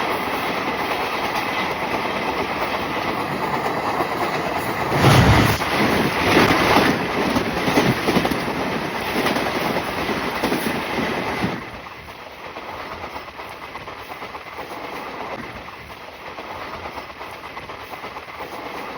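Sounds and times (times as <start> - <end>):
train rumble: 0.0 - 18.9
train wheels clattering: 0.0 - 18.9.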